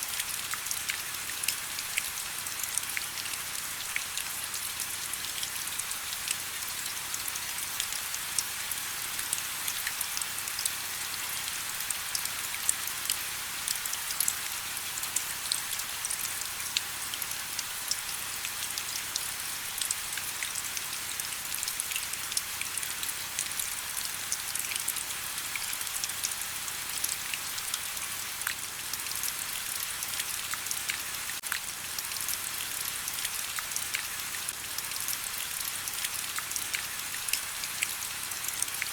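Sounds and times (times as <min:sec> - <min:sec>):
rain ticking on surfaces: 0:00.0 - 0:38.9.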